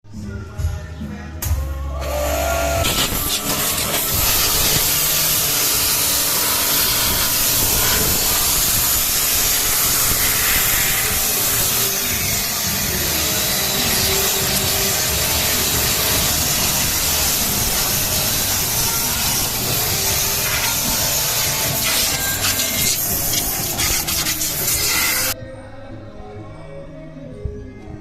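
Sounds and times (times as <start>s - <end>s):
water jet hissing: 2.1s - 25.4s
water pump running: 2.1s - 25.4s.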